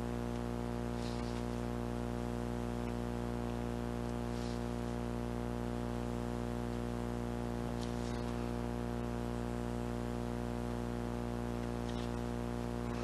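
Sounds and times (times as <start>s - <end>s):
electrical hum and buzz: 0.0s - 13.0s.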